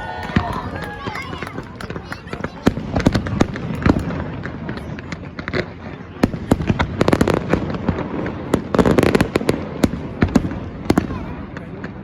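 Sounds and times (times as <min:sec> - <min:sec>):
fireworks rapid crackling: 0:00.0 - 0:12.0
fireworks bangs and pops: 0:00.1 - 0:12.0.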